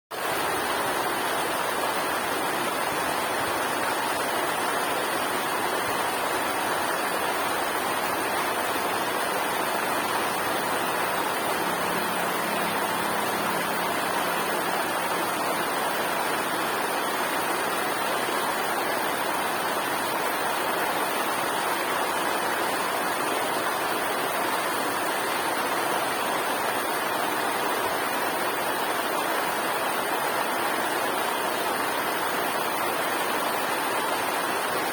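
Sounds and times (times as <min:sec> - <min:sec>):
water rushing over waterfall: 0:00.2 - 0:34.9.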